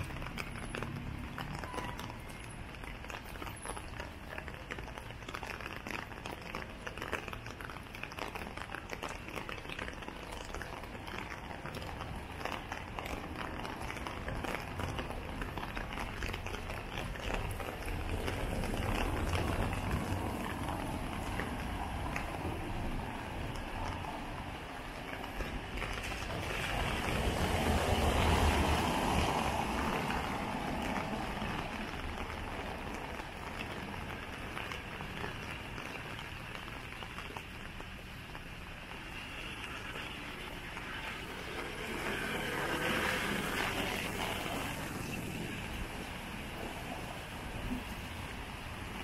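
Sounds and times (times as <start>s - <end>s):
rain falling on street: 0.0s - 49.0s
tyres hissing on wet road: 0.0s - 49.0s.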